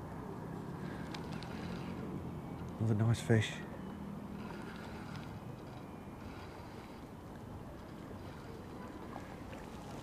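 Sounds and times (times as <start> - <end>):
river water: 0.0 - 10.0
wind: 0.0 - 10.0.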